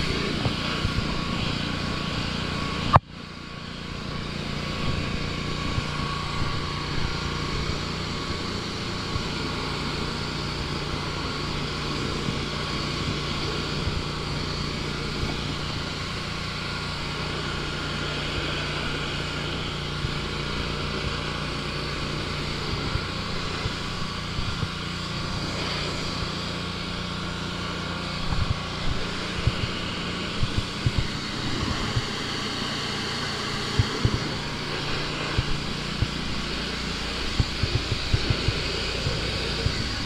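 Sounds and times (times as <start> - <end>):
pressure washer engine running: 0.0 - 40.0
water jet hissing: 0.0 - 40.0.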